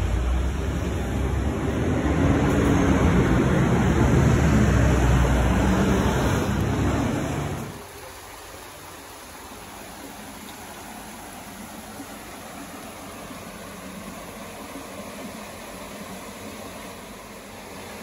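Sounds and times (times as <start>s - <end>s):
distant road traffic hiss: 0.0s - 18.0s.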